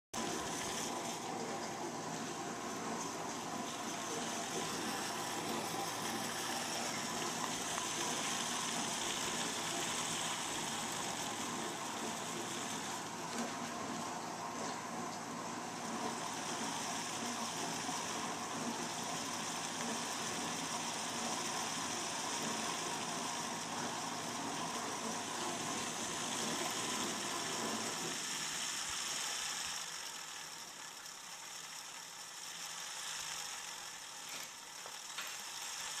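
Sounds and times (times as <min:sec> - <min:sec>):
dishwasher running: 0:00.2 - 0:32.9
computer fan running: 0:00.2 - 0:36.0.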